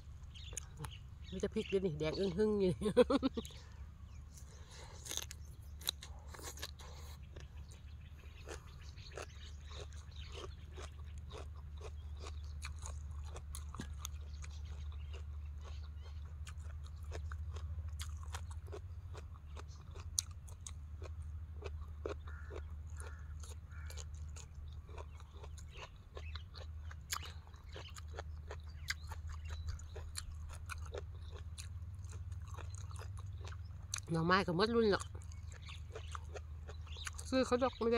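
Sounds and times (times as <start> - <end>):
person chewing and crunching: 0.0 - 1.5, 3.1 - 37.9
steady low hum: 0.0 - 34.1.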